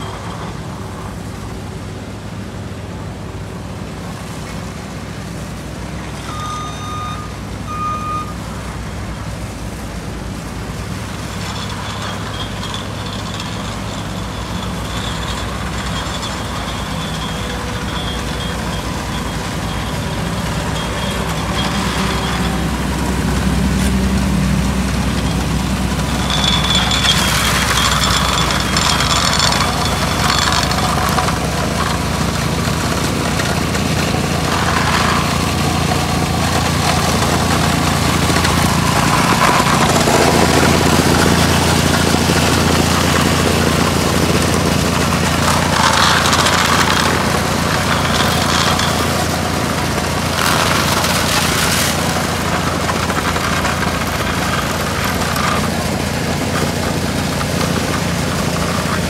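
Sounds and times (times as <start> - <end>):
diesel engine running: 0.0 - 59.0
plate compactor vibrating: 10.8 - 59.0.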